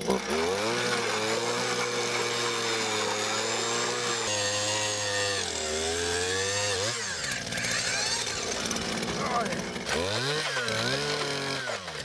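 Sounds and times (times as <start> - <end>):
ice auger motor boring: 0.0 - 12.0.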